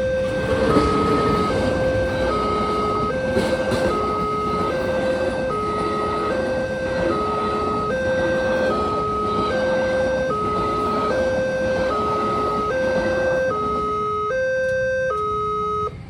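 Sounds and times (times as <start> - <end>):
level crossing two-tone alarm: 0.0 - 16.0
road traffic noise: 0.0 - 16.0.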